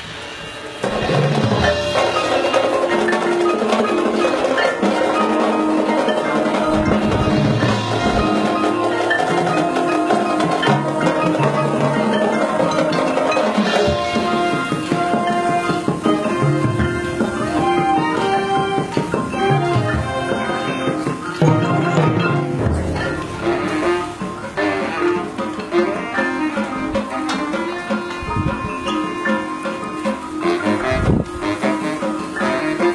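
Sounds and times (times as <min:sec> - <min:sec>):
drums: 0:00.0 - 0:32.9
marching band playing: 0:00.0 - 0:32.9
marimba and xylophone: 0:00.0 - 0:32.9.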